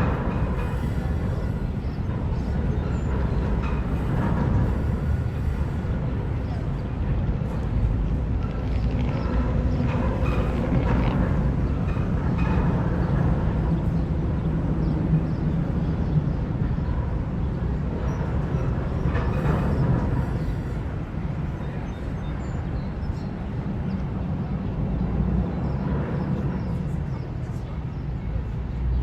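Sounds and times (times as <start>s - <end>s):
steam train rumbling: 0.0s - 29.0s.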